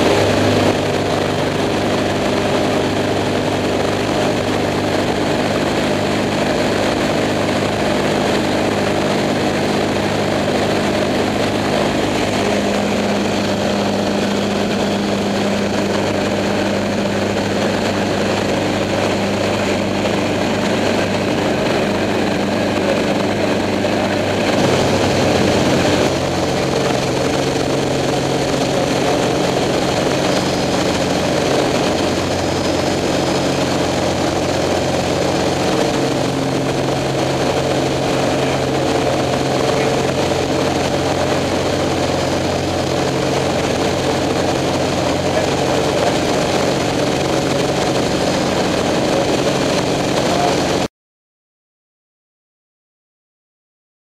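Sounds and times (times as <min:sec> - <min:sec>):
airplane engine and propeller drone: 0:00.0 - 0:50.9.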